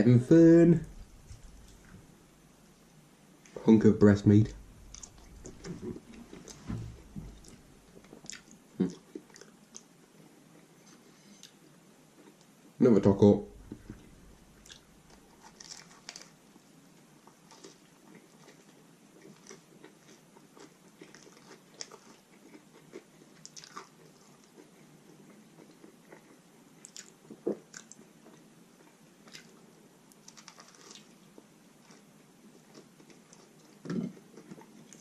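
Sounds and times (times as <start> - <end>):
crunchy food chewing: 0.8 - 2.1, 4.5 - 11.6, 13.5 - 16.4, 17.2 - 35.0.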